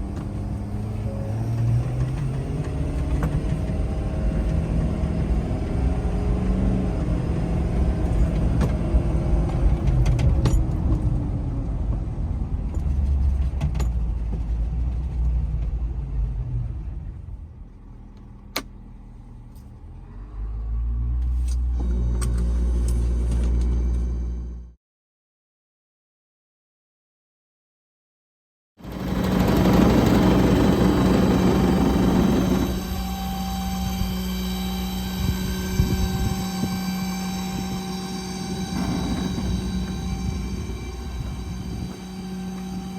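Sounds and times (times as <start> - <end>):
engine humming: 0.0 - 24.8, 28.8 - 42.9.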